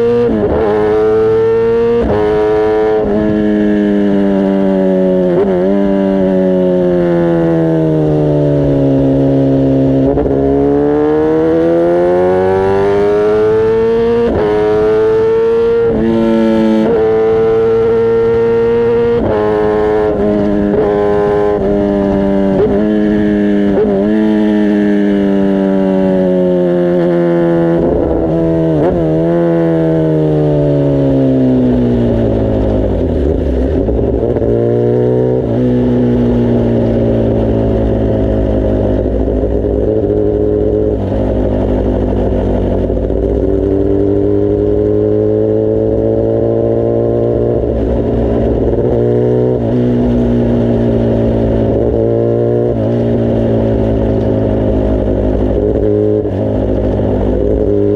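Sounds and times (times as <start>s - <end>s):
motorcycle engine and exhaust: 0.0s - 57.9s.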